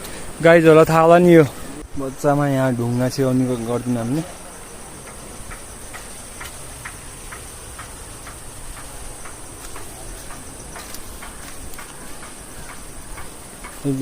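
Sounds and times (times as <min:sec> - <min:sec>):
high-pitched insect drone: 0:00.0 - 0:14.0
light ticking: 0:02.7 - 0:14.0.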